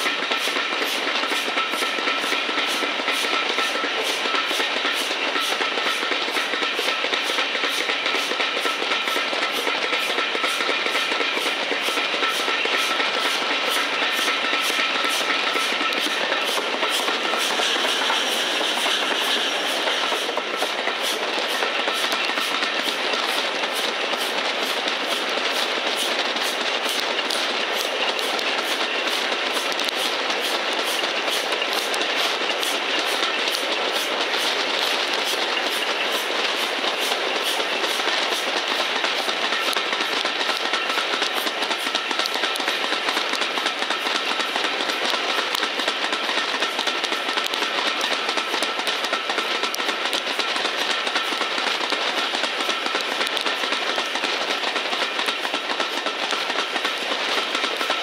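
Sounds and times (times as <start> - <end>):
regular steam locomotive beat: 0.0 - 58.0
wheels on rail and rushing air: 0.0 - 58.0.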